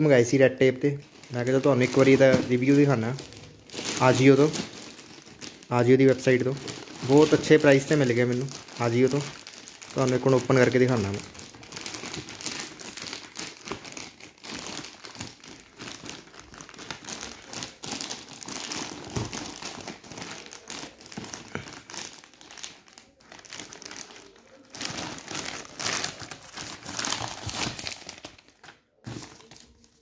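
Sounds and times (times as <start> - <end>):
plastic bag crinkling: 0.1 - 30.0.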